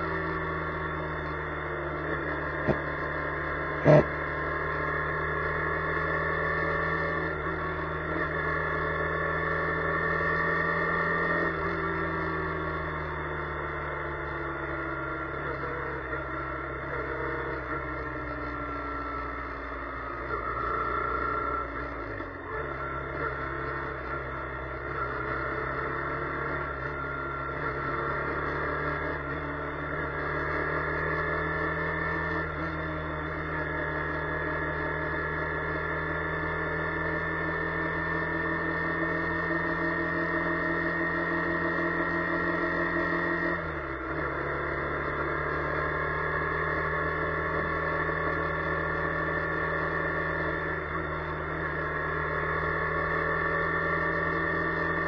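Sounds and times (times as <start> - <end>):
car engine drone in cabin: 0.0 - 55.0.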